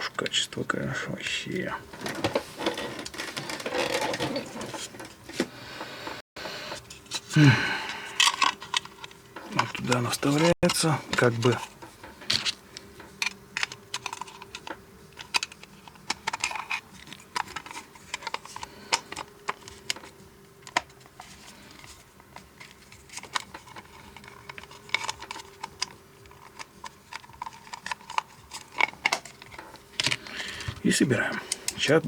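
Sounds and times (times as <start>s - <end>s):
plastic parts clicking and tapping: 1.9s - 5.5s, 6.7s - 32.0s.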